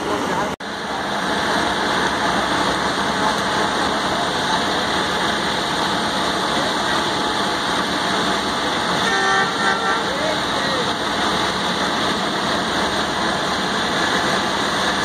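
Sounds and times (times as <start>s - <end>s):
busy platform noise: 0.0s - 15.0s
train diesel engine idling: 0.0s - 15.0s.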